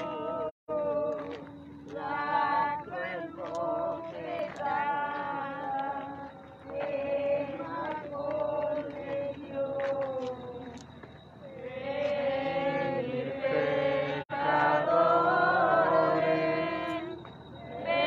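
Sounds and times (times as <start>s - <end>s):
group singing a hymn: 0.0s - 10.8s, 11.4s - 18.0s.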